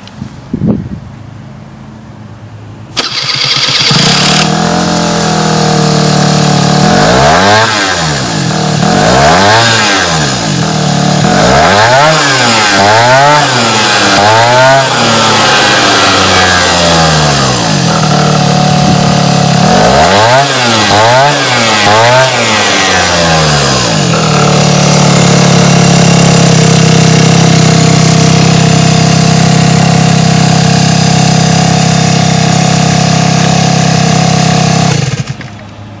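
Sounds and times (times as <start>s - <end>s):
scooter engine revving: 2.9s - 35.7s.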